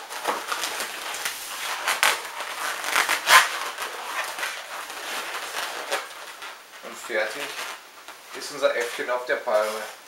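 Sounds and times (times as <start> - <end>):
balloons rubbing crackly scrapes: 0.0 - 10.0.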